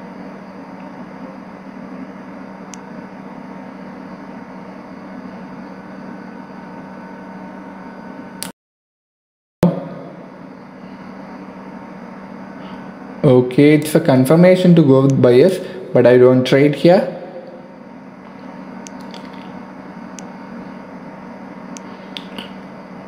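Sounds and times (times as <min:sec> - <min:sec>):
low room hum: 0:00.0 - 0:08.5, 0:09.6 - 0:23.0.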